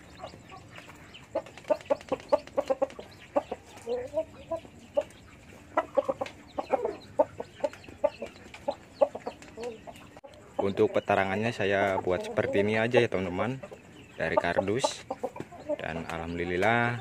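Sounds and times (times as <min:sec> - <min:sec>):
hen clucking: 0:00.0 - 0:17.0.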